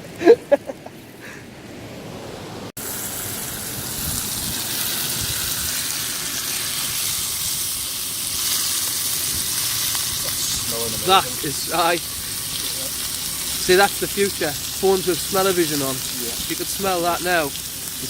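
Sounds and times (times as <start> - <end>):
food sizzling over campfire: 2.7 - 18.0.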